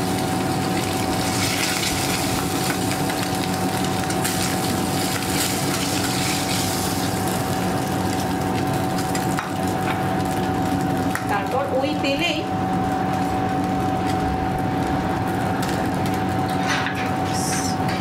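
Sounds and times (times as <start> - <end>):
fish frying in hot oil: 0.0 - 17.8
steady hum: 0.0 - 18.0.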